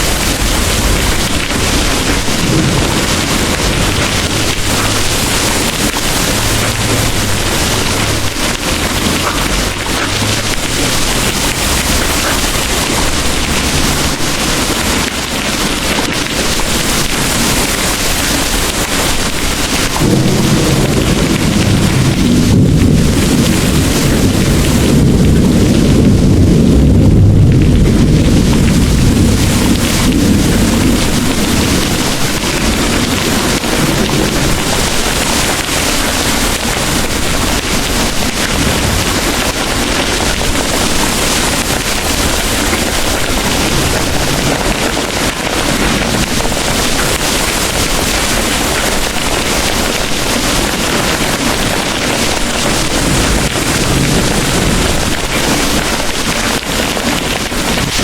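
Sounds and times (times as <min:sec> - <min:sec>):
distant thunder rumble: 0:00.0 - 0:58.0
heavy rain pouring: 0:00.0 - 0:58.0.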